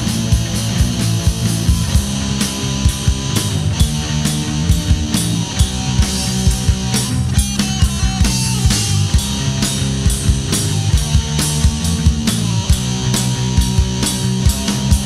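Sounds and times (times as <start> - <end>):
drum kit steady beat: 0.0 - 15.0
guitars and bass: 0.0 - 15.0.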